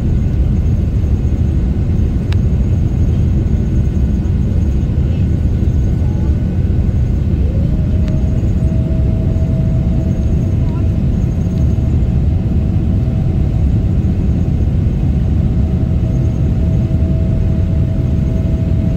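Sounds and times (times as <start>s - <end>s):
jet engines roaring in cabin: 0.0s - 18.9s.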